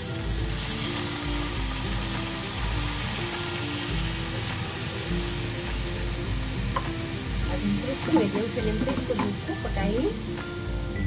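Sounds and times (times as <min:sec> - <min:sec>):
background music simple melody: 0:00.0 - 0:11.0
milk sizzling in a hot pan: 0:00.0 - 0:11.0.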